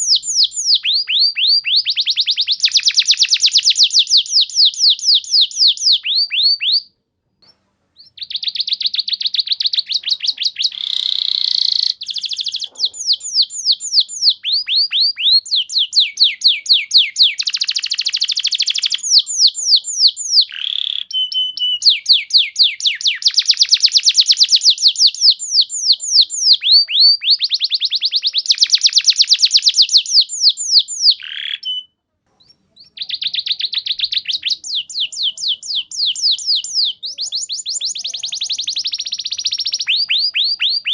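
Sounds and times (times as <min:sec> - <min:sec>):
canary singing trills: 0:00.0 - 0:07.0, 0:08.0 - 0:40.9.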